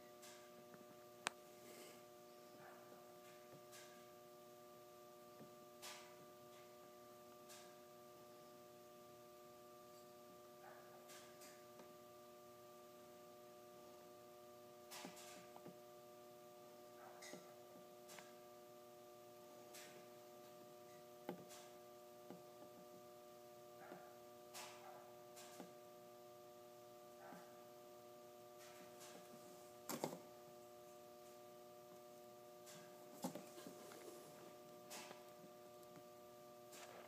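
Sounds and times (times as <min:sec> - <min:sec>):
faint multi-tone hum: 0:00.0 - 0:37.0.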